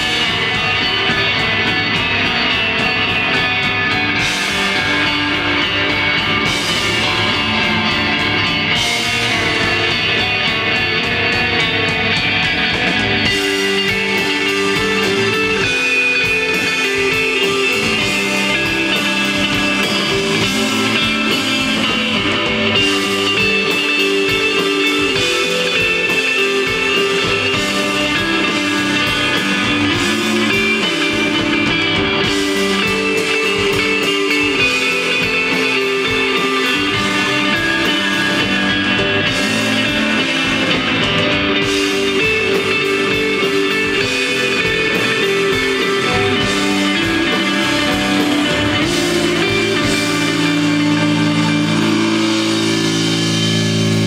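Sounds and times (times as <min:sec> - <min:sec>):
drums: 0:00.0 - 0:54.0
electric bass: 0:00.0 - 0:54.0
electric guitar: 0:00.0 - 0:54.0.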